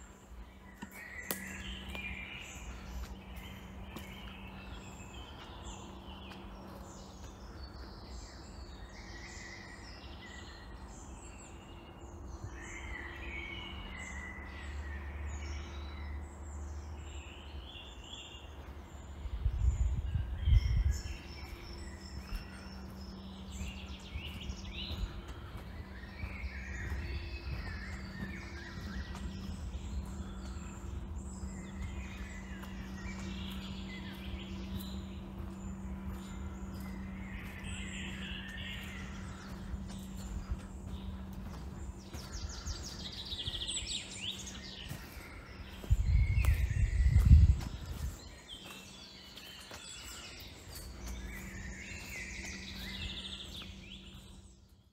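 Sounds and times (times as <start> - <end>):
faint low hum: 0.0 - 54.9
woodland birds singing: 0.0 - 54.9.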